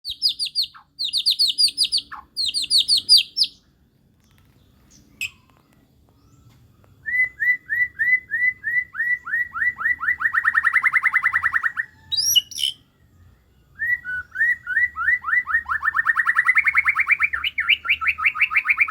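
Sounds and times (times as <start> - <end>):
songbird singing: 0.0 - 18.9.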